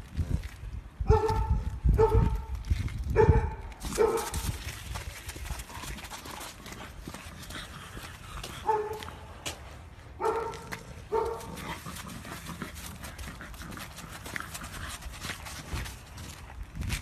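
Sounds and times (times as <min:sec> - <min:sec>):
dog boots tapping on pavement: 0:00.1 - 0:17.0.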